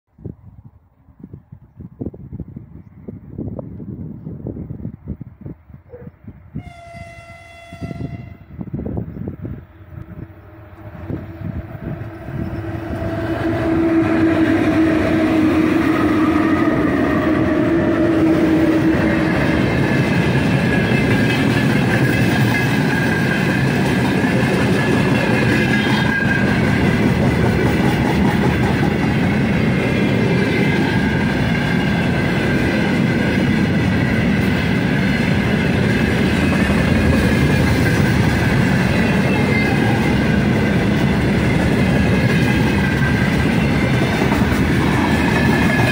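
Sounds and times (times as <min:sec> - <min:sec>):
locomotive steady tone: 0:05.9 - 0:45.9
freight wagons rumbling on rails: 0:08.0 - 0:45.9.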